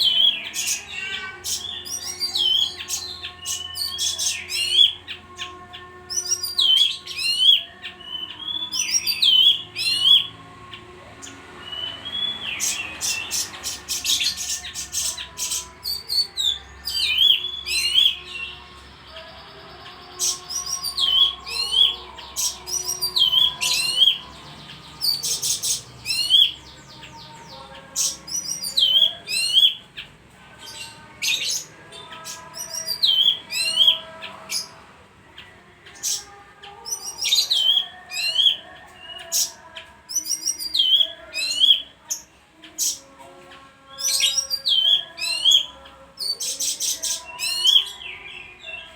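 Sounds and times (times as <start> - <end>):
bird singing rapid trills: 0.0 - 48.9.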